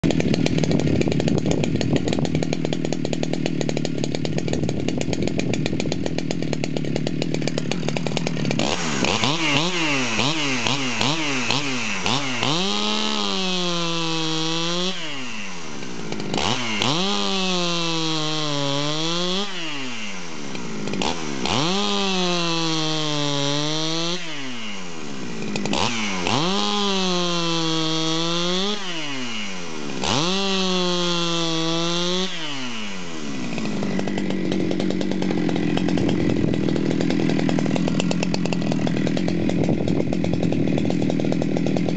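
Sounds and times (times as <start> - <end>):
chainsaw cutting log: 0.0 - 41.9
chainsaw idling and revving: 0.0 - 41.9.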